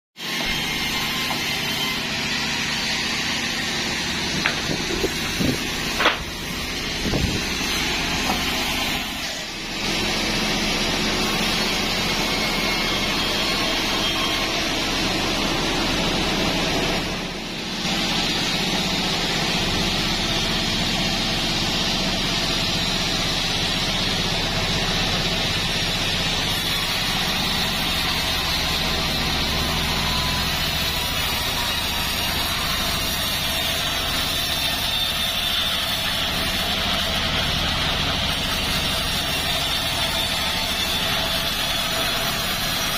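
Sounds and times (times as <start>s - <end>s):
band saw cutting log: 0.2s - 42.9s.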